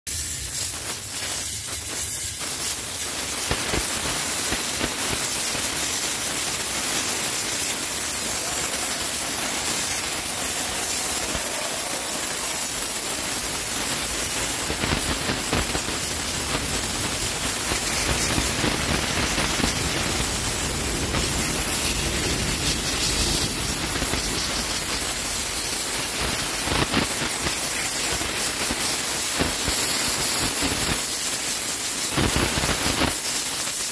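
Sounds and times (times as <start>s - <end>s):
steam jet hissing: 0.1s - 33.9s.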